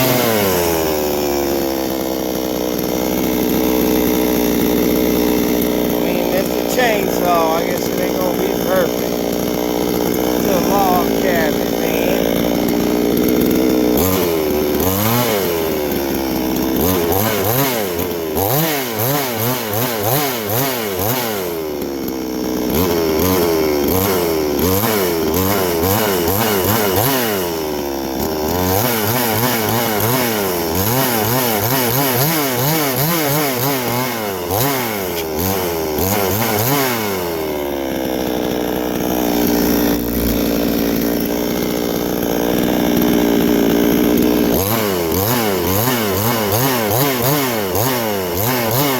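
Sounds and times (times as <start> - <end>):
chainsaw cutting log: 0.0 - 48.9.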